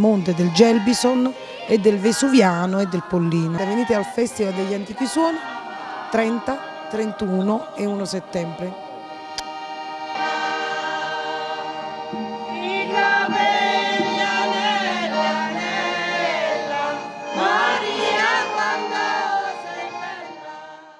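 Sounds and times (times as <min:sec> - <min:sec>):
women singing folk song: 0:00.0 - 0:20.9.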